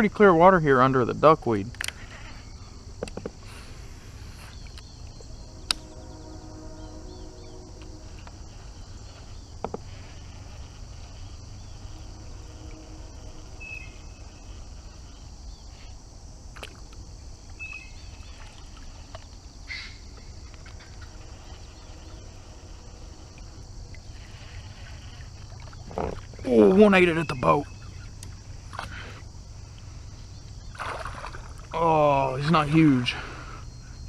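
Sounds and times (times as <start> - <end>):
high insect chorus: 0.0 - 34.0.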